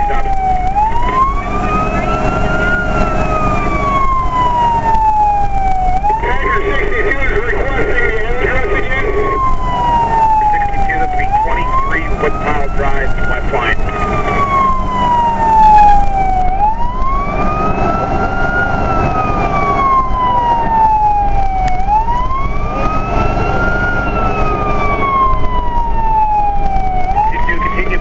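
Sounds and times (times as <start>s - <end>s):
fire engine siren wailing: 0.0s - 28.0s
truck engine and road noise: 0.0s - 28.0s.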